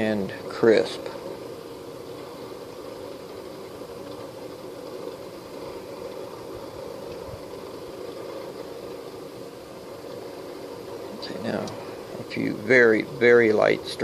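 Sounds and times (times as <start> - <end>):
steady background hum and hiss: 0.0 - 14.0.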